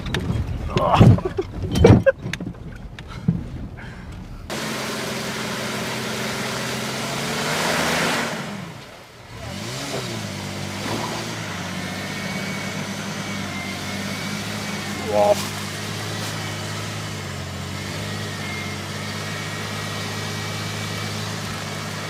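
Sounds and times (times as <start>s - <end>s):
engine working under load: 0.0s - 22.0s.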